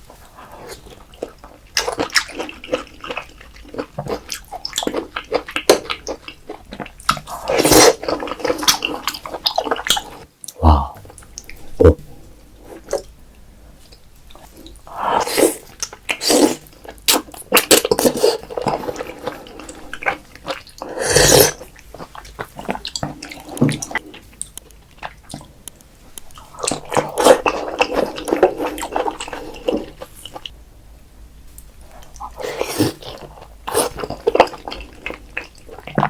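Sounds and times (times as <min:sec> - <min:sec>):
wet chewing of oysters: 0:00.2 - 0:10.3, 0:13.9 - 0:30.5, 0:31.7 - 0:36.0.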